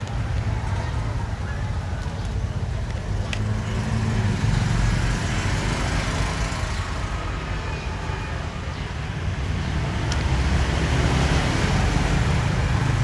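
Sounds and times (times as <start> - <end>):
road traffic rumbling: 0.0 - 13.0.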